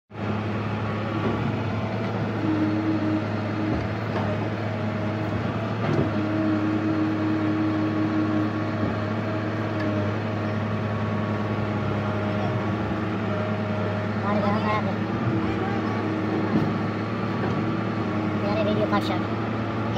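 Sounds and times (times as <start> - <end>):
excavator diesel engine running: 0.1 - 19.9
hydraulic whine: 0.1 - 19.9.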